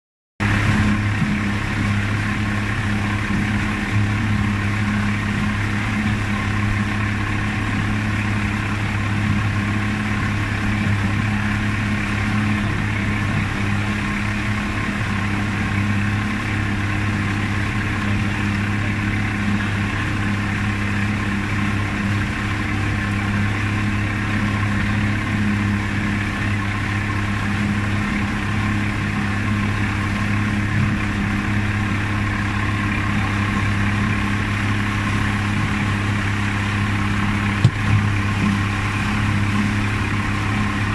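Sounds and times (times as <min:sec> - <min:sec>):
boat engine humming: 0:00.4 - 0:40.9.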